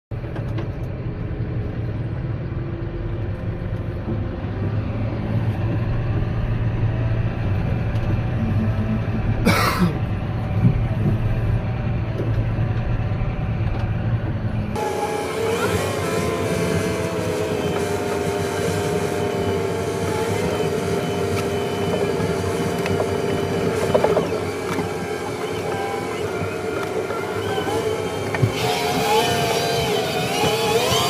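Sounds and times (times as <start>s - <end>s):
tractor diesel engine running: 0.1s - 31.0s.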